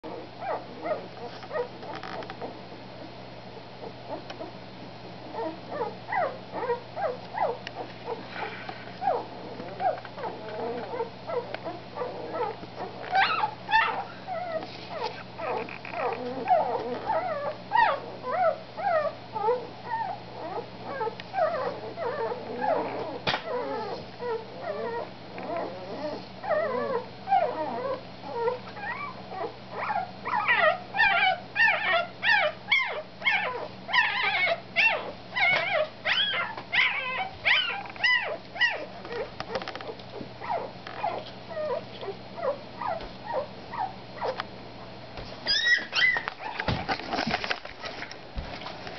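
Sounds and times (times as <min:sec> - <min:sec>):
puppies squeaking and whimpering: 0:00.1 - 0:02.5, 0:05.3 - 0:44.4, 0:45.4 - 0:48.1.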